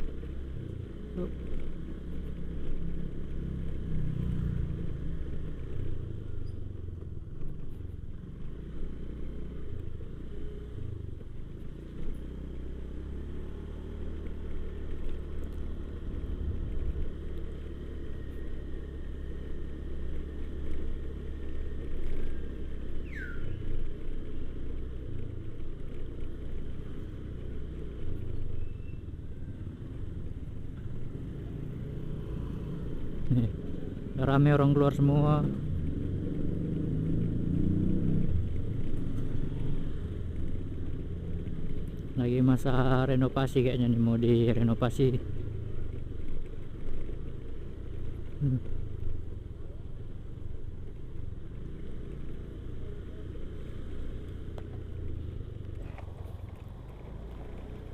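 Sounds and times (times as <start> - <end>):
motorcycle engine rumbling: 0.0 - 57.9.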